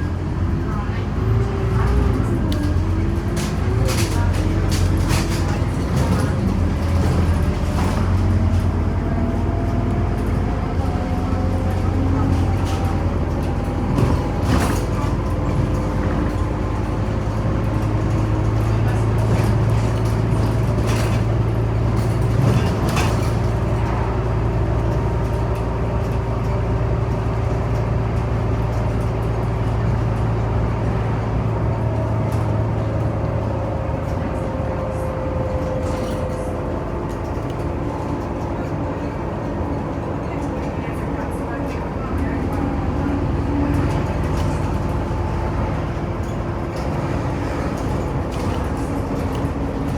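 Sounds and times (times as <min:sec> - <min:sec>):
bus engine drone: 0:00.0 - 0:49.9.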